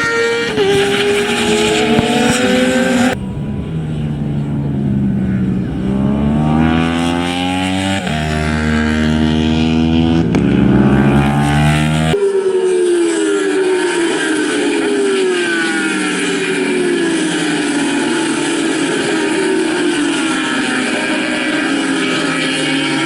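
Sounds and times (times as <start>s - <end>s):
racing motorcycle engines revving: 0.0s - 12.2s, 12.9s - 23.0s.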